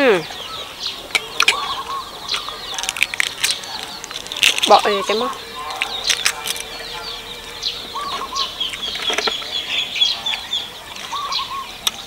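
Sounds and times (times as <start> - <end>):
small birds chirping: 0.0 - 12.0
chicken clucking: 0.1 - 12.0.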